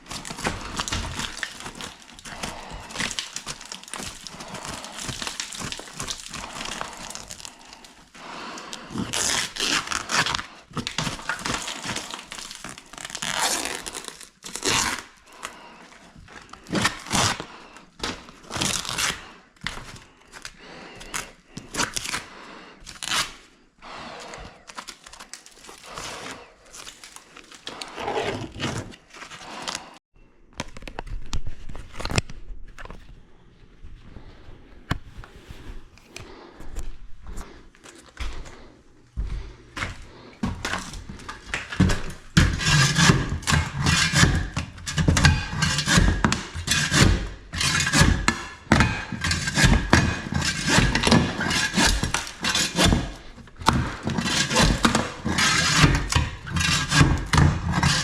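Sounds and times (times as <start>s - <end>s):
crumpling and tearing material: 0.0s - 30.0s, 40.1s - 58.0s.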